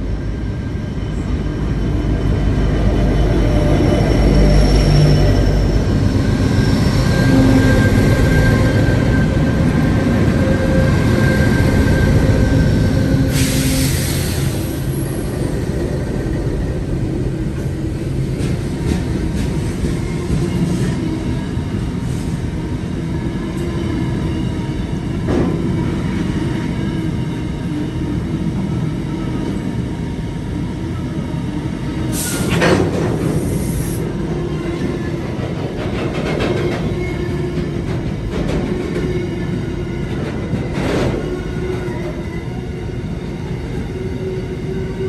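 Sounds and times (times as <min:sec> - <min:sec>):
electric train rumbling: 0:00.0 - 0:45.0
train wheel squeal: 0:00.1 - 0:45.0.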